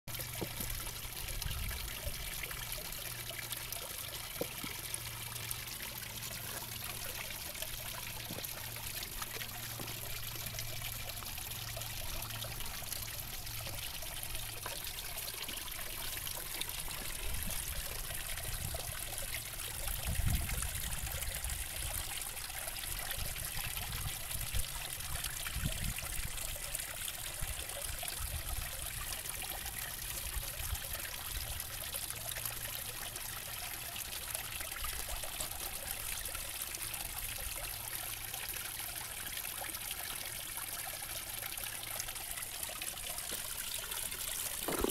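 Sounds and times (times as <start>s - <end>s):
water trickling into pond: 0.1s - 44.9s.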